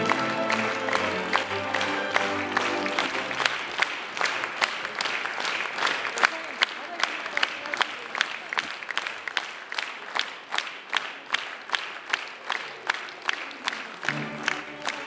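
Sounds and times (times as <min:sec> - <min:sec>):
audience clapping in rhythm: 0:00.0 - 0:15.0.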